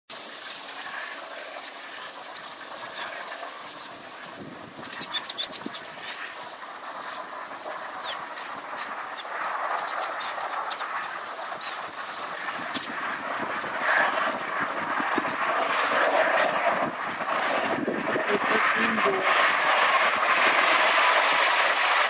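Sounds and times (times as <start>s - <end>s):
jet airliner rumble: 0.2s - 22.0s.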